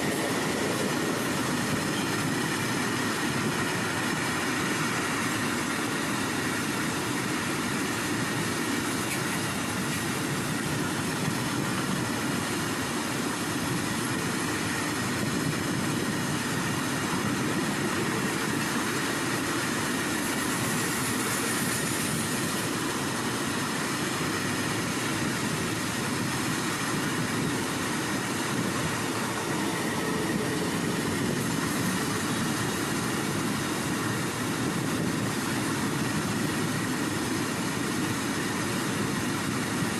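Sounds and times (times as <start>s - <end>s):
freight train running: 0.0s - 39.9s.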